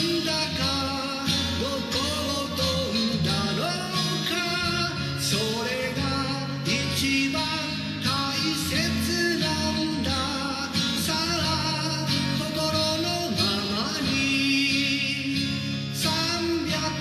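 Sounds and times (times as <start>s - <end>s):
acoustic guitar: 0.0s - 17.0s
man singing: 0.0s - 17.0s.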